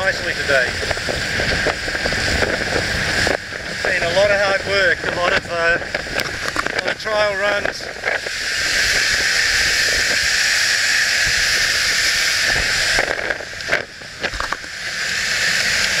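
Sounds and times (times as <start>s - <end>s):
wind rushing: 0.0s - 15.6s
churning wake water: 0.0s - 16.0s.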